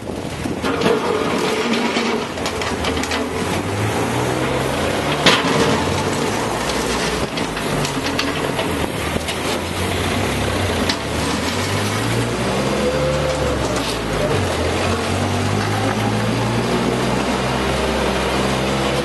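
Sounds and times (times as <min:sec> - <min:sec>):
metallic clanks and rattles: 0:00.0 - 0:17.4
excavator diesel engine running: 0:00.0 - 0:19.0.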